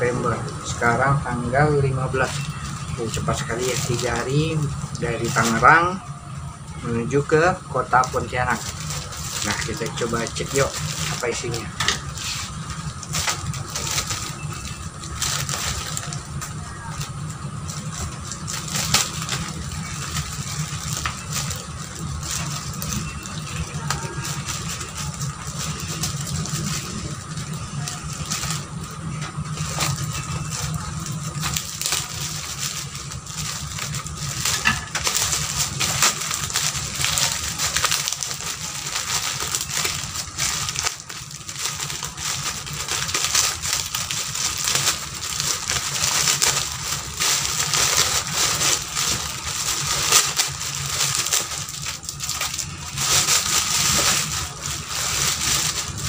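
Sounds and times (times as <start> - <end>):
plastic bag crinkling: 0.0 - 56.0
steady low hum: 0.0 - 56.0.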